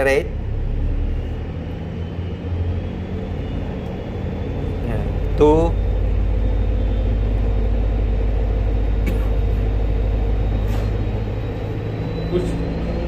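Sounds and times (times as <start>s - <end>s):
diesel engine running under throttle: 0.0s - 13.0s.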